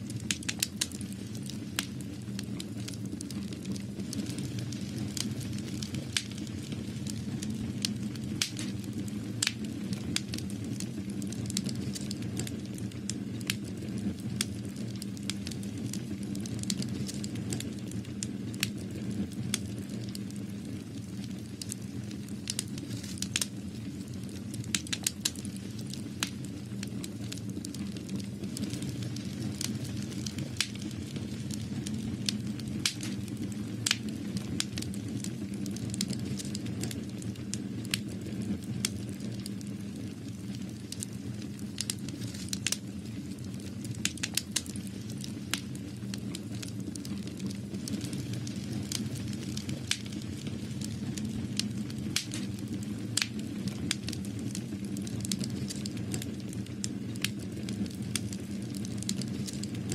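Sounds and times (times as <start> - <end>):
sharp crackles and clicks: 0.0 - 59.9.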